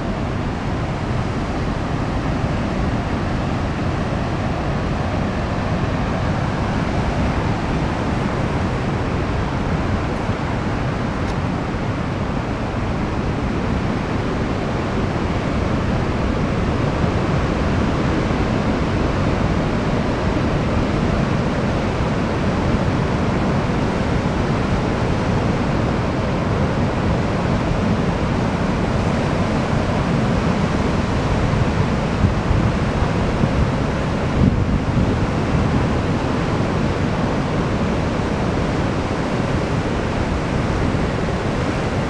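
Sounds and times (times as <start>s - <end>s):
waves breaking: 0.0s - 42.0s.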